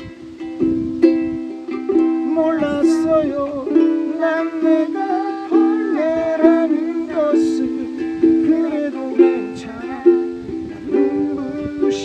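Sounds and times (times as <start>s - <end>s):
person singing: 0.0s - 0.6s, 1.5s - 12.0s
ukulele strumming: 0.0s - 12.0s.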